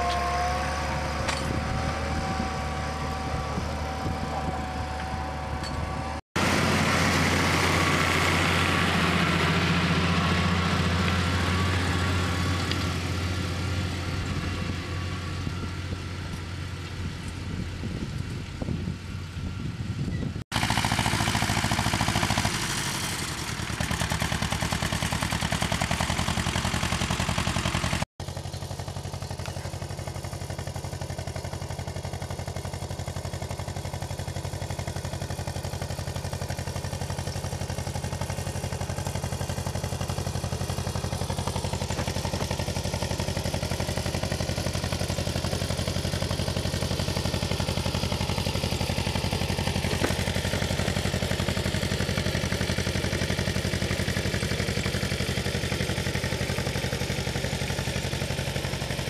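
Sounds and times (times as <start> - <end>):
tractor diesel engine: 0.0 - 59.0.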